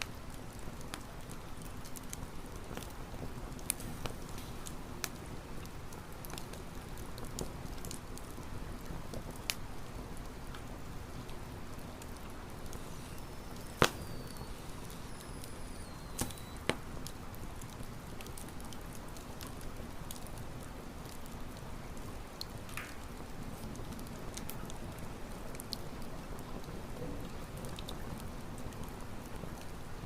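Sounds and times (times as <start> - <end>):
campfire crackling: 0.0 - 30.0
fire popping: 0.0 - 30.0.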